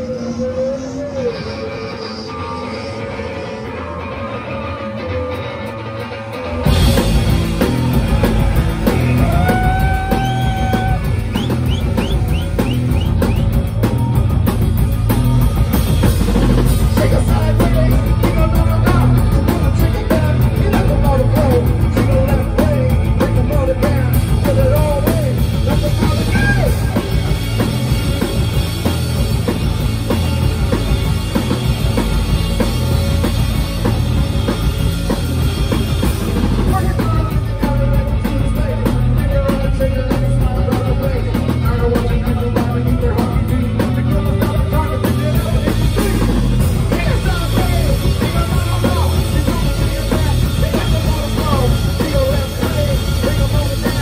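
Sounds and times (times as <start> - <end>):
bass guitar: 0.0 - 54.0
electric guitar: 0.0 - 54.0
drum kit: 5.1 - 54.0.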